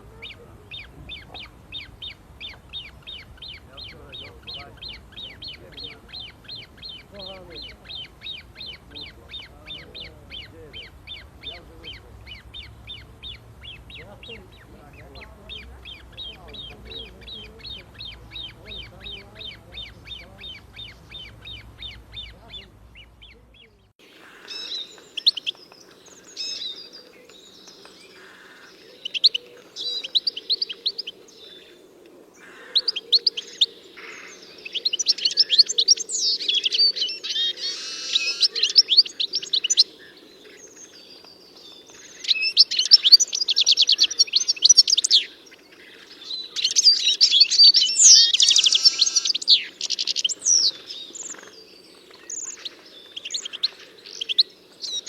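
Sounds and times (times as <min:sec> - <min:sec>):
songbird trilling and chirping: 0:00.0 - 0:31.8, 0:32.4 - 0:55.0
low background noise: 0:00.0 - 0:55.0.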